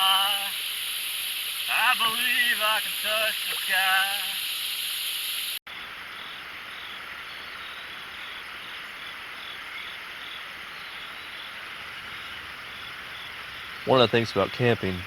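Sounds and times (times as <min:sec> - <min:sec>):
frogs calling: 0:00.0 - 0:15.0
insects calling: 0:00.0 - 0:15.0.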